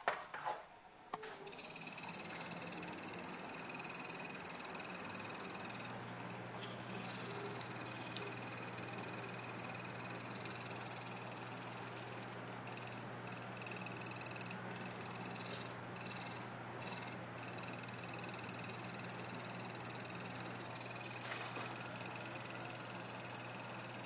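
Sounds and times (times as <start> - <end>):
fan humming: 0.4 - 24.0
fan ticking rapidly: 1.5 - 24.0.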